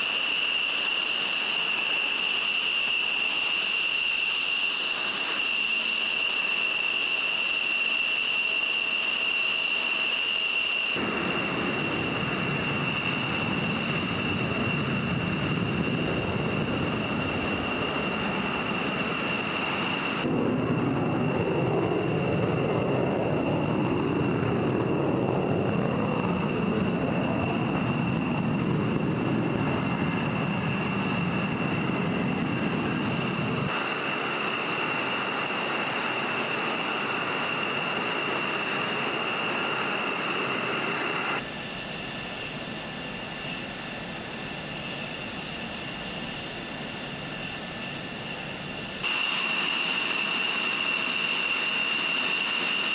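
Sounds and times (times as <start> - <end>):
jet turbine whine: 0.0 - 52.9.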